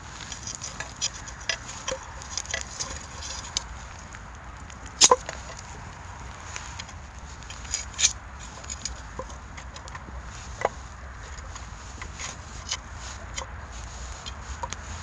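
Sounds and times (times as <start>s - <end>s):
pine cones crackling in fire: 0.0s - 15.0s.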